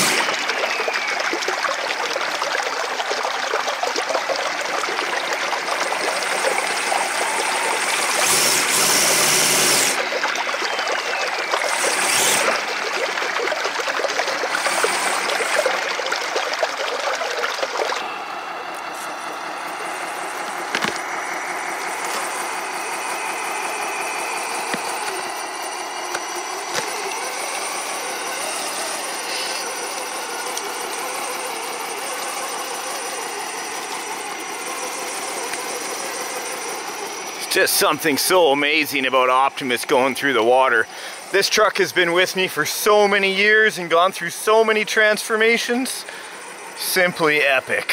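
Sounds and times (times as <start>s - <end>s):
electric motor whine: 0.0s - 2.0s, 4.8s - 16.4s, 17.6s - 47.9s
creek water splashing: 0.0s - 47.9s.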